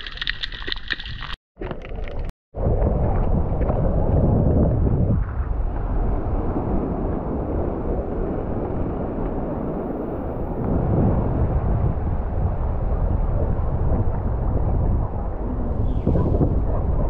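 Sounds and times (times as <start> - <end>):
wind buffeting microphone: 2.5 - 17.0.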